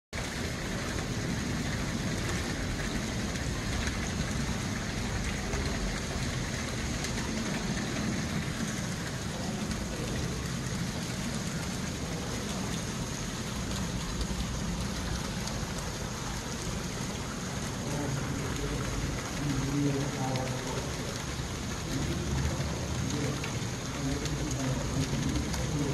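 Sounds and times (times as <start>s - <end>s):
water splashing into pond: 0.2s - 25.9s.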